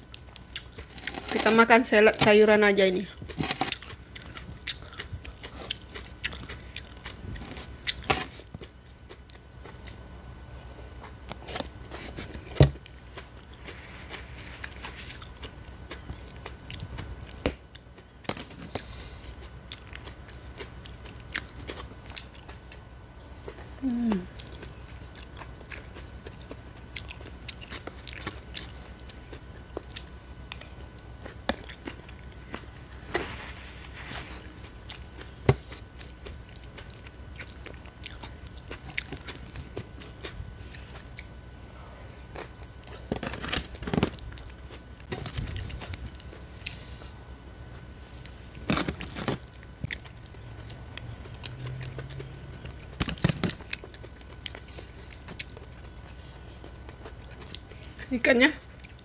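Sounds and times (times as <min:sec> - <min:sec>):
chewing and crunching salad: 0:00.0 - 0:59.0.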